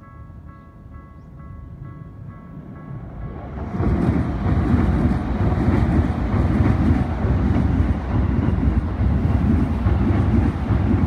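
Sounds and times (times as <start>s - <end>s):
train wheels rumbling on rails: 1.2s - 11.0s.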